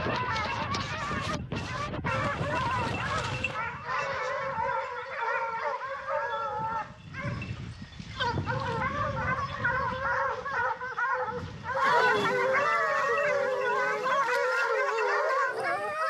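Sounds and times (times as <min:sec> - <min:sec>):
hounds baying: 0:00.0 - 0:07.4, 0:08.2 - 0:16.0.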